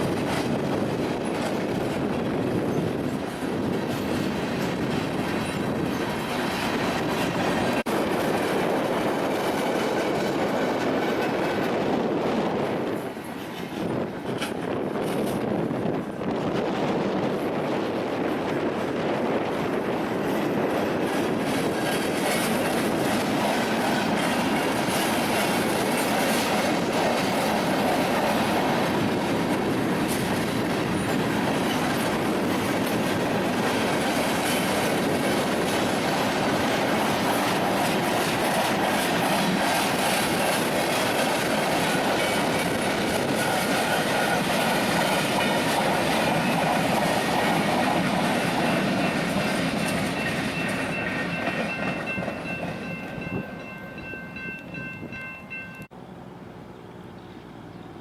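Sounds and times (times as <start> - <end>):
train wheels clattering on rails: 0.0 - 55.9.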